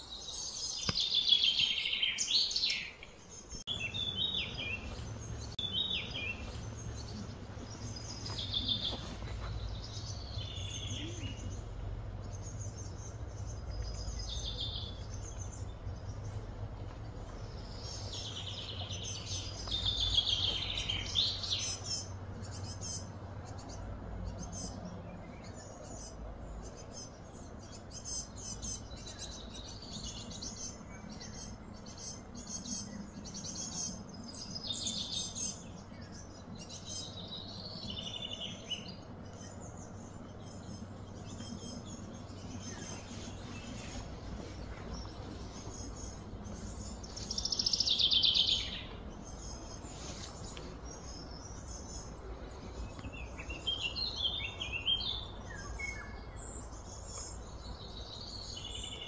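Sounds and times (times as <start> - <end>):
birds chirping and calling: 0.0 - 59.0
low background hum: 2.9 - 59.0.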